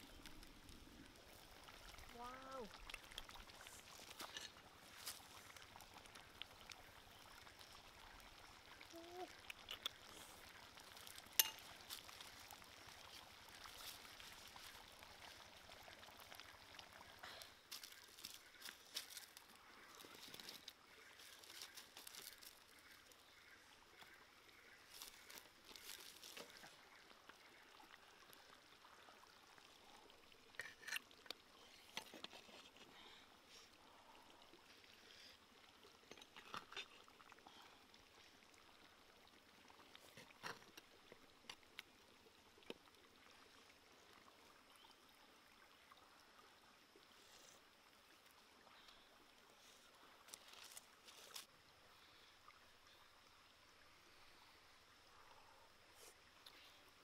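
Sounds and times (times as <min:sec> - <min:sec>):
faint trickle of running water: 0:00.0 - 0:57.0.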